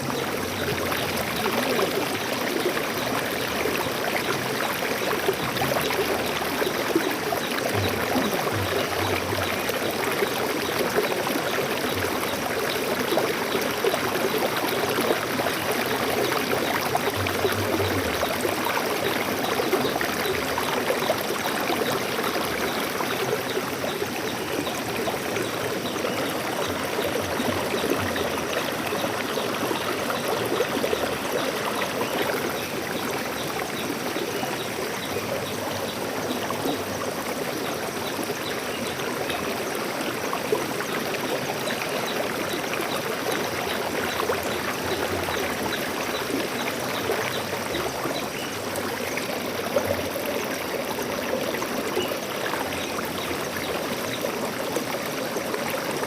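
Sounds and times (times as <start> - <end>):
stream babbling over rocks: 0.0 - 56.0.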